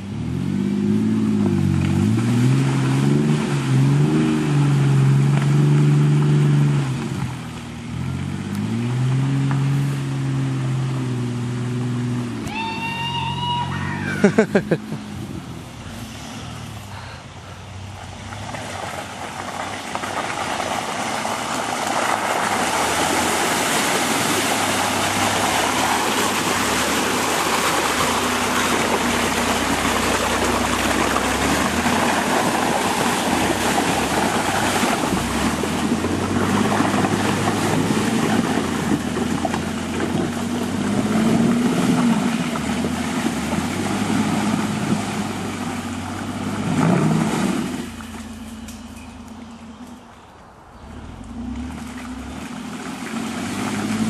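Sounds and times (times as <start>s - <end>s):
engine running under load: 0.0s - 54.0s
tyres splashing through mud: 0.0s - 54.0s.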